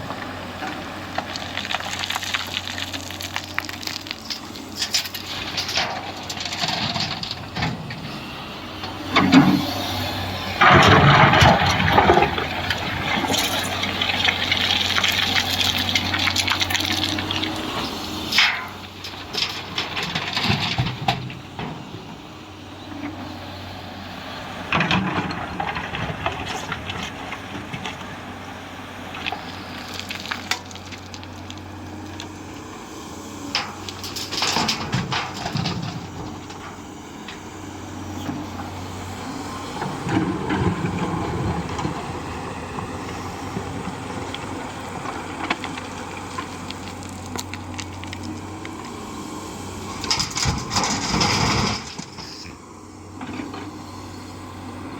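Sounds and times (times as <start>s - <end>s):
excavator engine hum: 0.0s - 54.9s.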